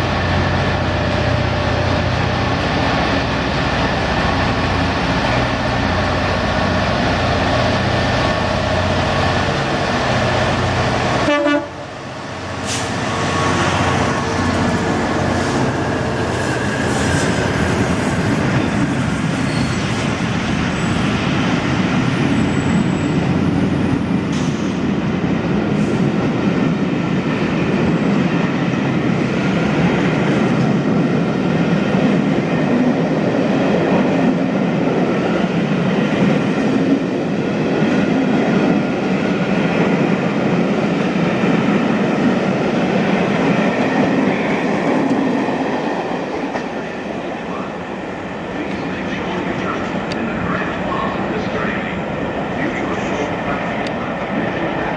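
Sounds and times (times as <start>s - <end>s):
train rolling rumble: 0.0s - 54.9s.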